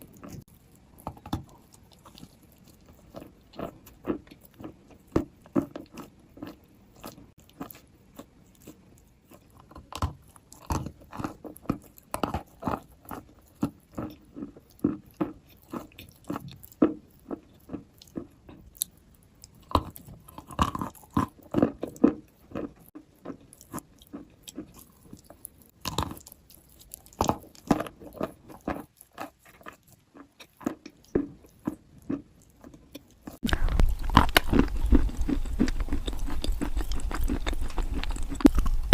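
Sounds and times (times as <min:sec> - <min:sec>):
chalk being chewed: 0:00.0 - 0:38.9.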